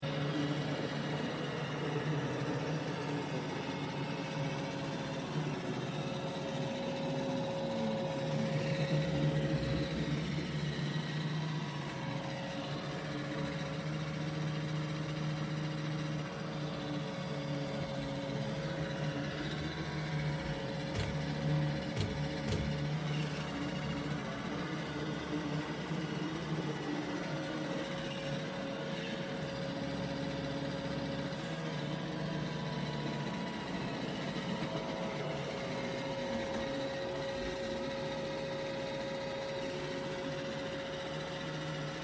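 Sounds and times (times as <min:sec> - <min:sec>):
robot vacuum motor and brush hum: 0:00.1 - 0:42.0.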